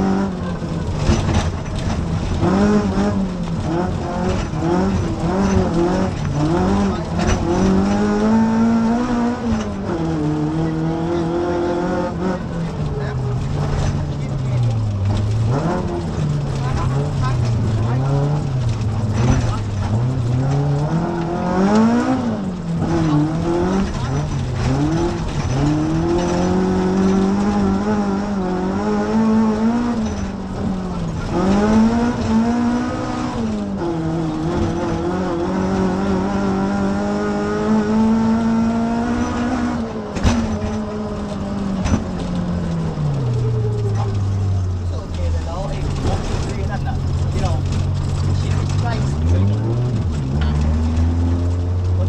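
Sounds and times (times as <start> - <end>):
car engine under hard driving: 0.0 - 52.0.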